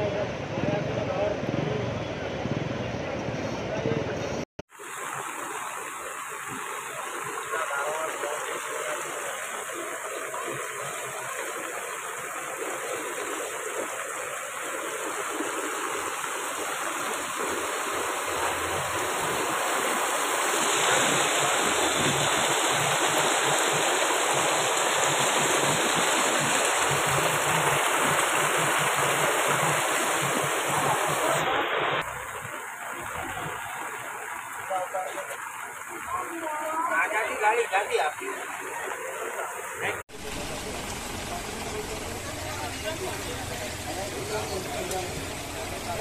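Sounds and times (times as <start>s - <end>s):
floodwater rushing: 4.7s - 46.0s.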